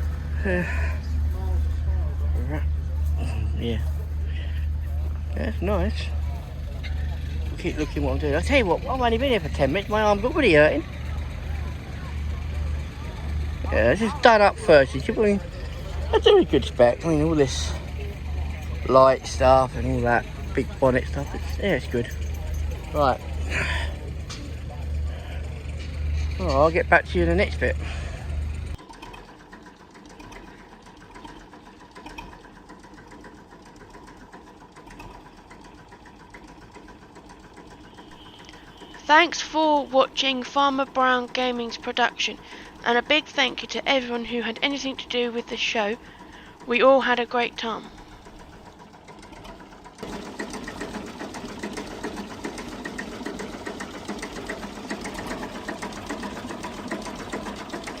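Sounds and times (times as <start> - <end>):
machine clattering: 0.0 - 58.0.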